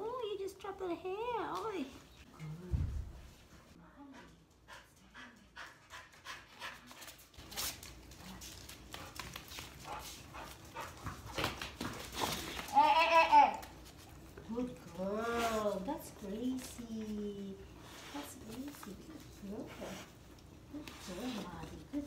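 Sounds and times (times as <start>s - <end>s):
dogs panting and sniffing: 1.6s - 12.7s, 13.6s - 22.0s.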